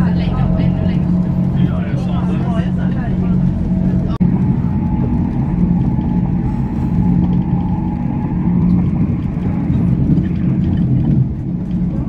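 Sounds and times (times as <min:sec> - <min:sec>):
faint steady whine: 0:00.0 - 0:12.0
train wheels rumbling on track: 0:00.0 - 0:12.0.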